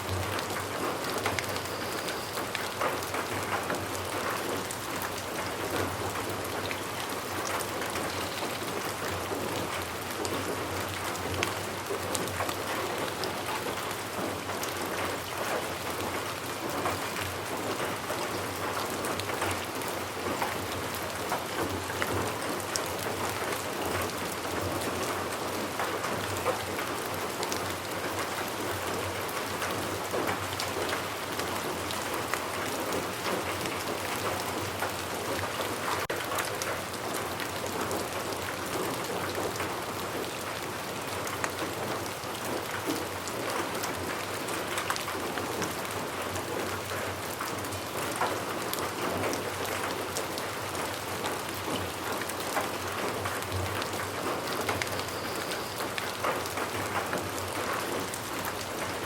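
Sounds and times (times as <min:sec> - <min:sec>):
raindrops hitting: 0:00.0 - 0:59.0
steady rain falling: 0:00.0 - 0:59.0.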